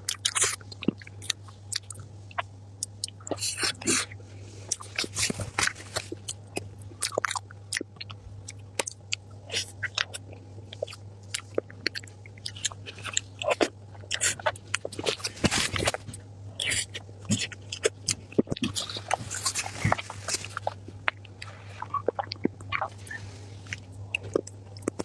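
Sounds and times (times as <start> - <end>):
person biting and chewing food: 0.0 - 25.0.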